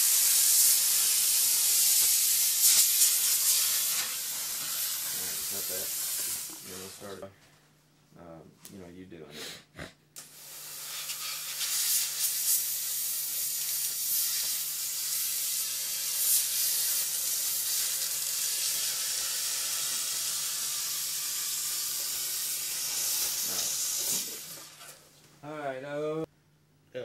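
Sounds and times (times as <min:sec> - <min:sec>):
steamer nozzle hissing: 0:00.0 - 0:07.1, 0:10.2 - 0:25.0.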